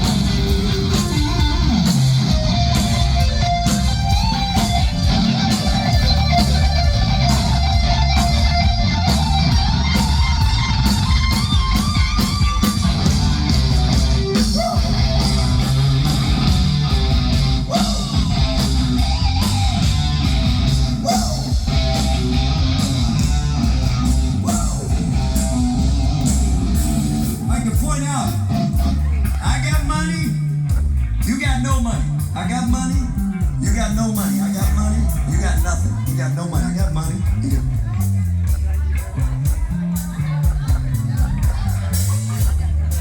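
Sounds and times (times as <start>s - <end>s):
electric guitar: 0.0s - 43.0s
live rock band playing: 0.0s - 43.0s.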